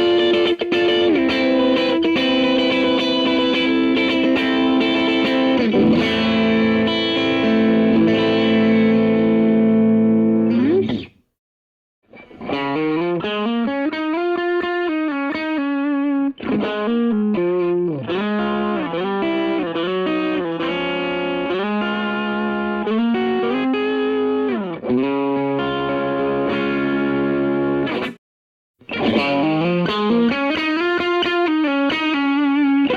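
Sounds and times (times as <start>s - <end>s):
electric guitar lead with bends: 0.0s - 11.2s, 12.1s - 28.2s, 28.8s - 32.9s.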